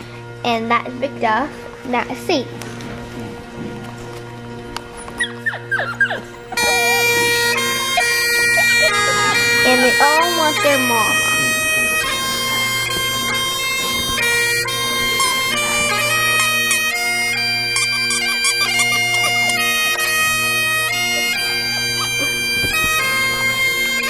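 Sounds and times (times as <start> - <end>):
bagpipe music: 0.0 - 24.0.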